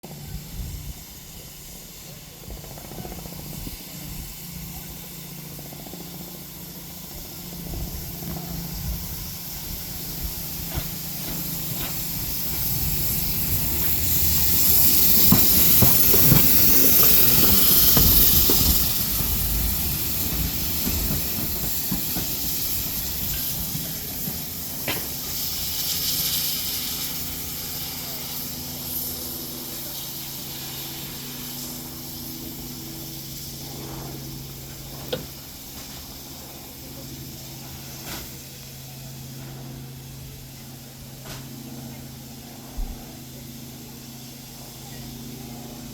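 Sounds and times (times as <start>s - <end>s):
steam locomotive hissing and rumbling: 0.0s - 45.9s.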